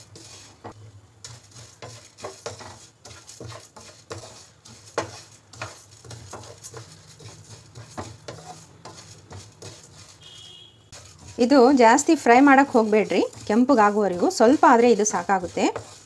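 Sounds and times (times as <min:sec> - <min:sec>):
spatula scraping wok: 0:00.0 - 0:16.0
seeds rattling in pan: 0:01.2 - 0:16.0.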